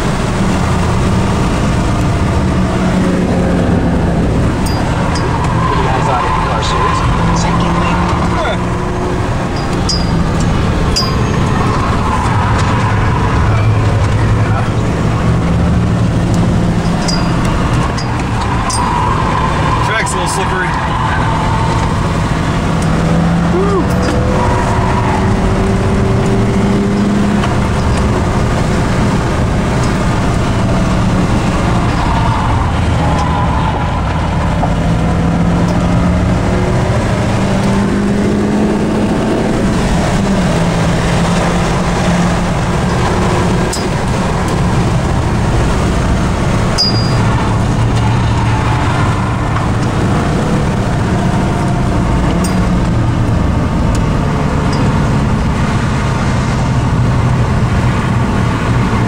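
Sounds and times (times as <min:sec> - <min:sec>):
car engine accelerating: 0:00.0 - 0:59.0
road noise inside car: 0:00.0 - 0:59.0.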